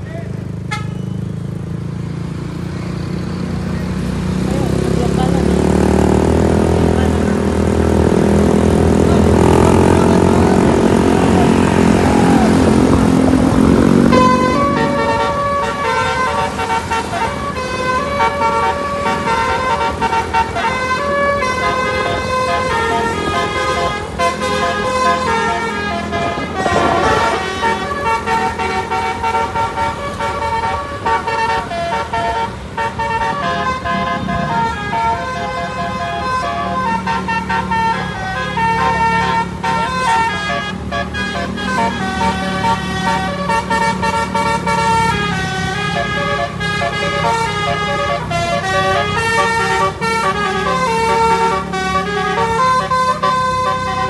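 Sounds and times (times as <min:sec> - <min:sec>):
deep low bus horn chord: 0:00.6 - 0:01.3, 0:04.7 - 0:54.0
telolet horn rapid notes: 0:09.0 - 0:54.0.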